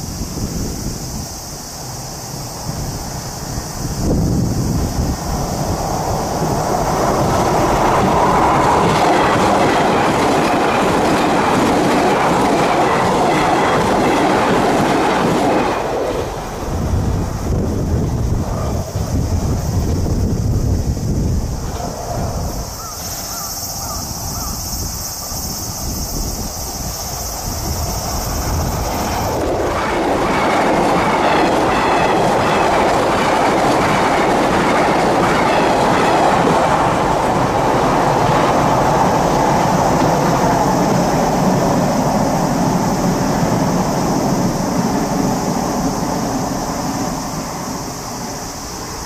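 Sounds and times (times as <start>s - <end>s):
bridge rumbling: 0.0s - 25.4s, 26.2s - 49.0s
train wheels clattering over joints: 2.6s - 20.4s, 25.8s - 49.0s.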